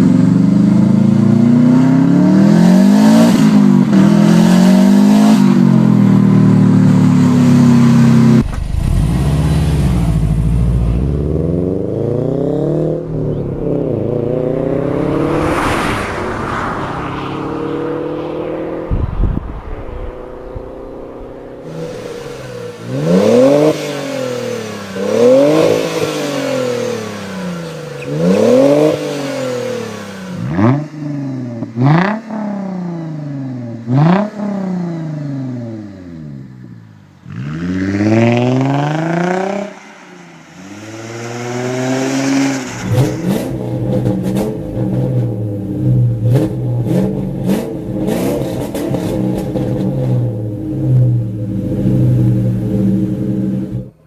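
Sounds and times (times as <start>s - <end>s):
car engine revving: 0.0s - 36.5s, 37.2s - 54.0s.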